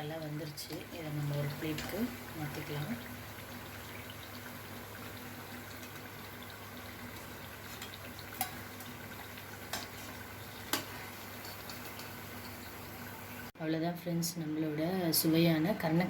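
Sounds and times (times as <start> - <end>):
food frying in hot oil: 0.0 - 13.6.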